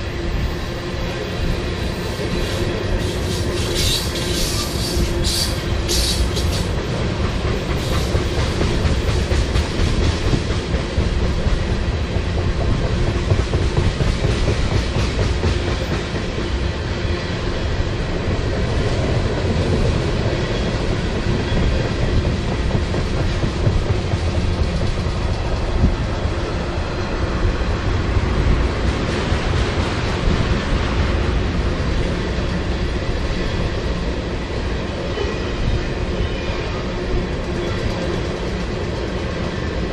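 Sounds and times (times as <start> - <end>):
clickety-clack over rail joints: 0.0 - 16.8, 17.7 - 39.9
train wheels rumbling on rails: 0.0 - 39.9.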